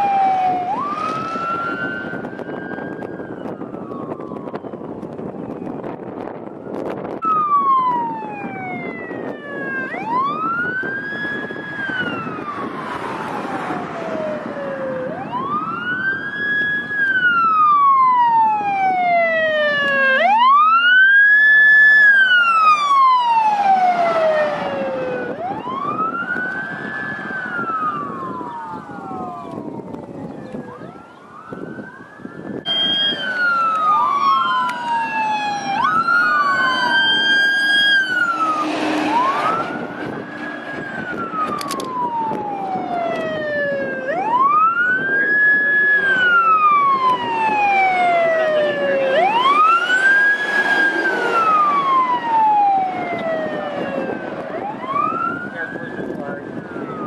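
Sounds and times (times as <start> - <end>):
engine and tyre noise: 0.0 - 57.0
fire engine siren wailing: 0.0 - 57.0.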